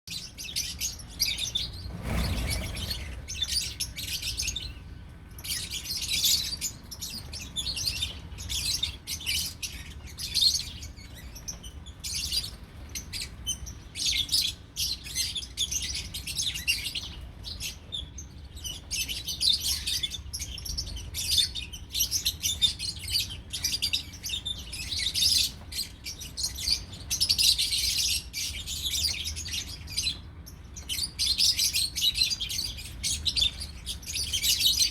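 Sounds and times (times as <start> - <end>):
lovebirds chirping and chattering: 0.1 - 34.9.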